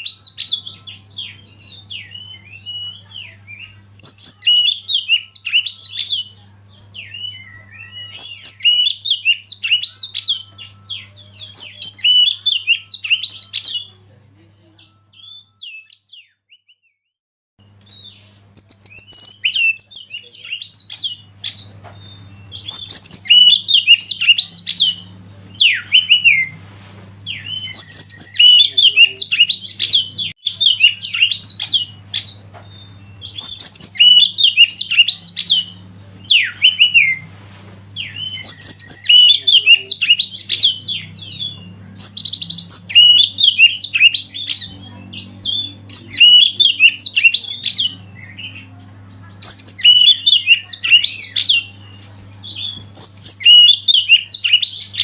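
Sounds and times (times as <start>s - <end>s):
bird singing chirps and whistles: 0.0s - 14.0s, 14.8s - 17.0s, 17.8s - 55.0s.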